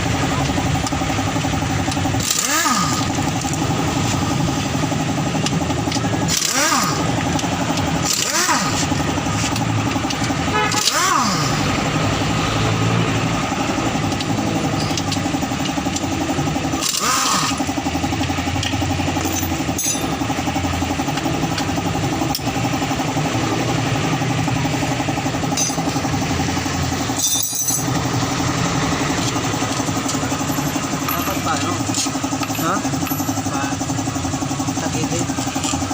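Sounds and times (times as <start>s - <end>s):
small motorcycle engine idling: 0.0s - 35.9s.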